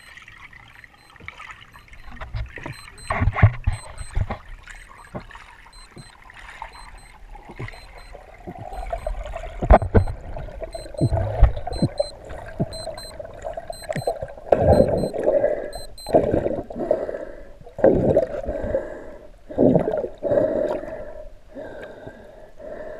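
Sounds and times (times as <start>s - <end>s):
surges of water: 0.0s - 18.8s
muffled underwater water noise: 0.0s - 22.9s.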